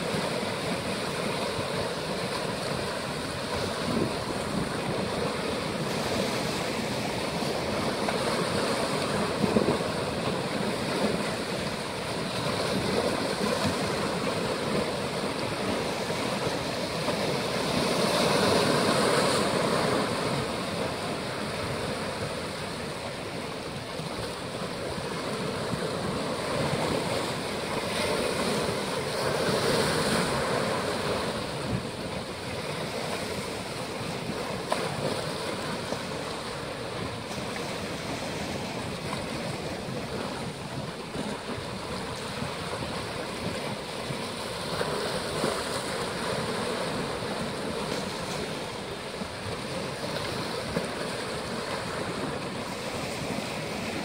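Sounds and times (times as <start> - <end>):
waves breaking over rocks: 0.0 - 54.0.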